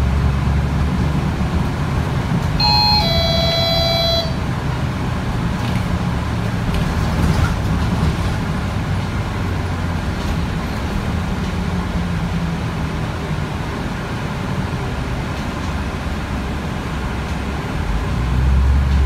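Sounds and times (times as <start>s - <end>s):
bus diesel engine humming: 0.0s - 19.0s.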